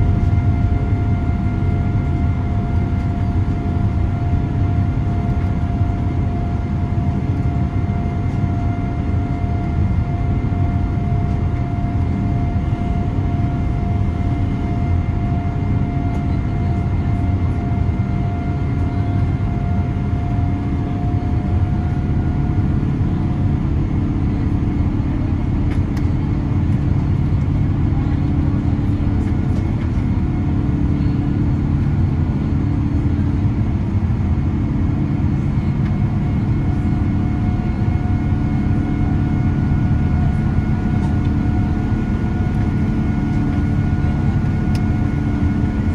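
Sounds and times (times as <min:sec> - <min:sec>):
airliner cabin engine and airflow noise: 0:00.0 - 0:45.9.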